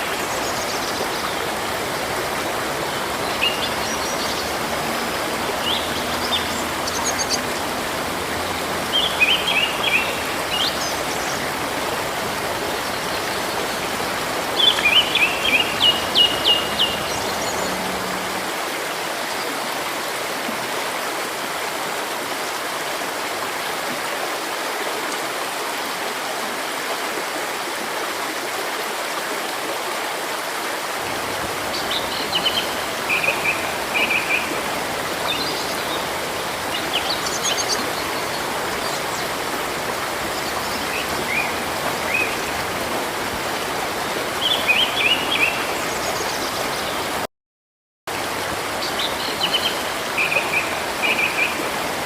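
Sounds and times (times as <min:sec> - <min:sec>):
river water running: 0:00.0 - 0:47.3, 0:48.1 - 0:52.0.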